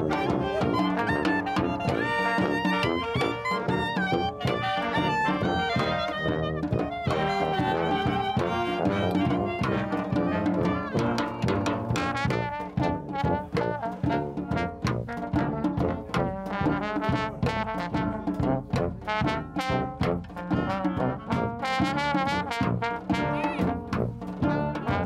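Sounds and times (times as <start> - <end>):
bass drum and snare beat: 0.0 - 25.0
brass band playing: 0.0 - 25.0.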